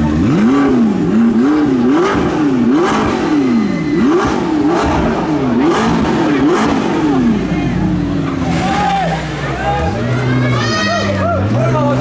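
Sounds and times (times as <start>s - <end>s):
exhaust cracks: 0.0s - 12.0s
sports car engine revving: 0.0s - 12.0s.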